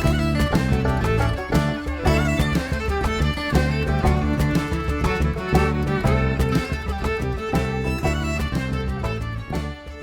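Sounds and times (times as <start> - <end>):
fiddle: 0.0 - 10.0
guitar: 0.0 - 10.0
steady bass: 0.0 - 10.0.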